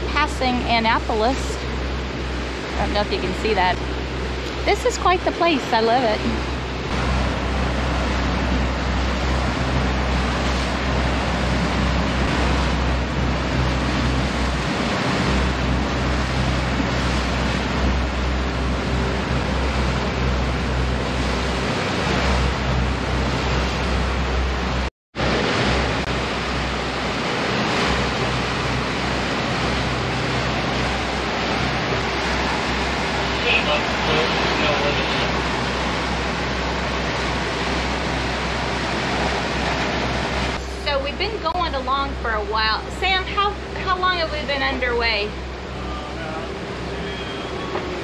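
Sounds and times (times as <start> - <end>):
boat engines droning: 0.0 - 48.0
water rushing along boat hull: 0.0 - 48.0.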